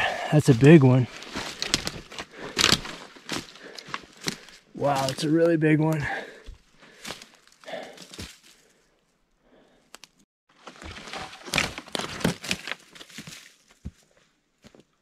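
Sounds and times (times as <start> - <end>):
footsteps crunching on forest litter: 0.5 - 8.9, 10.6 - 15.0.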